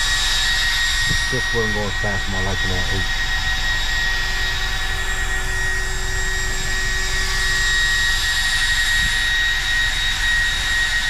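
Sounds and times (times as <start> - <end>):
cooling fans whining: 0.0 - 11.0.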